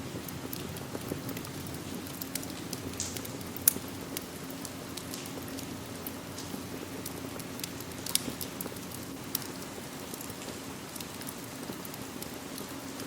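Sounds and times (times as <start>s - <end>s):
rain hissing: 0.0s - 13.0s
wood fire crackling: 0.0s - 13.0s.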